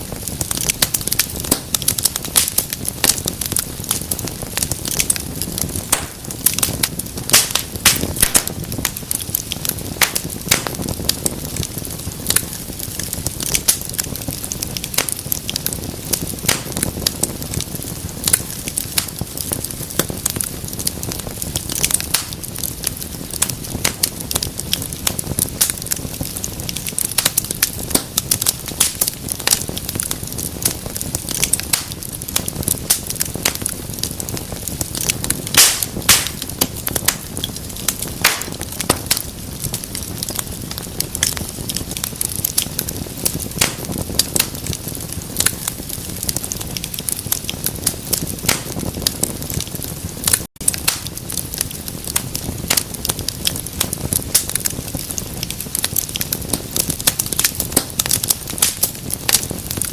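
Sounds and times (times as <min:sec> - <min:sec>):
fire crackling and popping: 0:00.0 - 0:59.9
low rushing of flame: 0:00.0 - 0:59.9.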